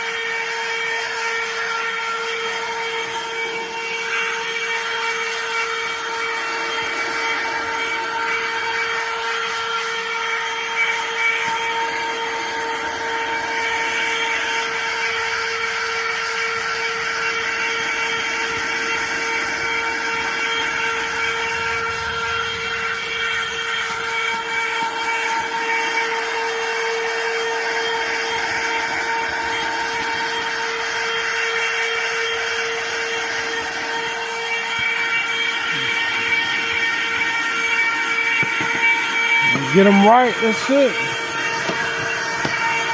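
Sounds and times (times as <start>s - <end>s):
handheld vacuum cleaner running: 0.0s - 42.9s.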